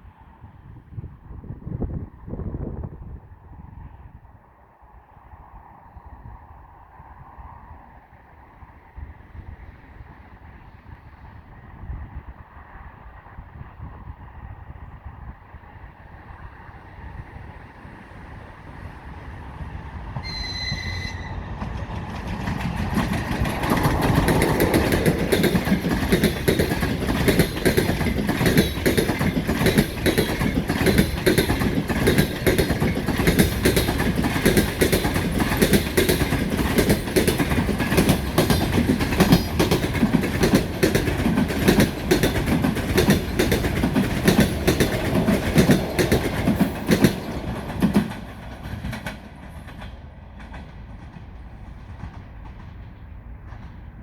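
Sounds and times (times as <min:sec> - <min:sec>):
train passing close: 0:00.0 - 0:54.0.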